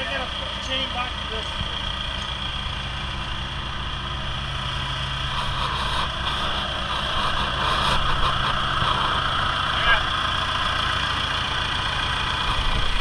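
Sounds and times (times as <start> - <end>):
engine-driven water pump running: 0.0 - 13.0.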